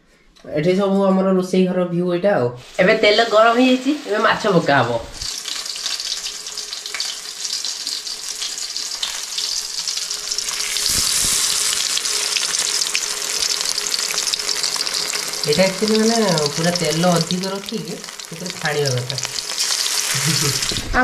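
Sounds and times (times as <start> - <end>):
fish sizzling in hot oil: 2.6 - 21.0.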